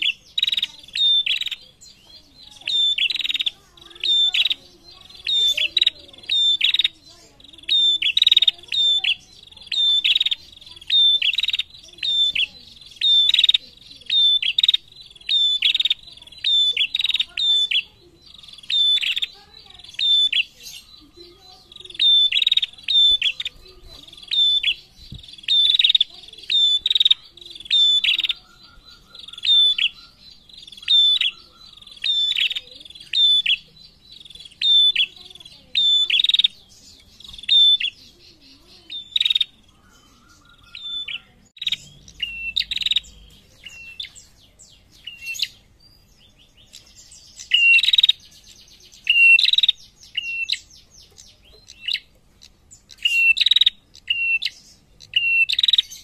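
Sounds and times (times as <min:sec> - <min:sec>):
buzzy bird chatter: 0:00.0 - 0:56.0
songbird chip notes: 0:00.0 - 0:56.0.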